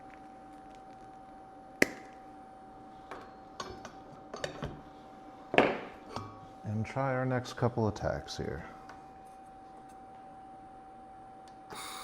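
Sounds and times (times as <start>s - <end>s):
steady thin hum: 0.0s - 12.0s.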